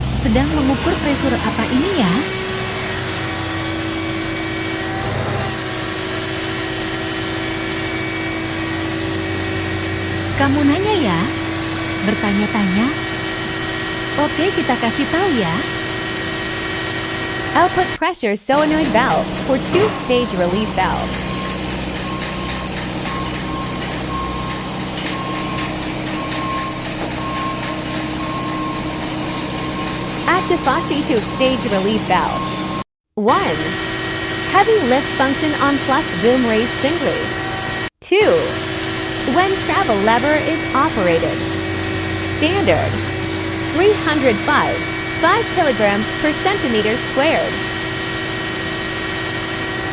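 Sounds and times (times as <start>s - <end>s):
excavator engine drone: 0.0s - 49.9s
hydraulic whine: 0.0s - 49.9s.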